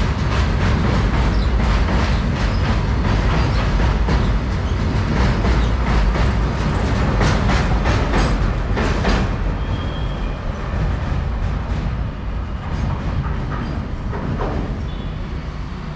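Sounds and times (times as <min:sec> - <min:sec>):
train wheels clacking over rail joints: 0:00.0 - 0:15.5
heavy low train rumble: 0:00.0 - 0:15.9.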